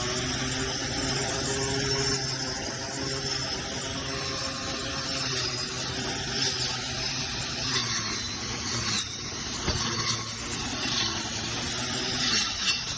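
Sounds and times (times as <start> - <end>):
electric weed trimmer motor humming: 0.0 - 12.9
trimmer blade cutting vegetation: 0.0 - 12.9.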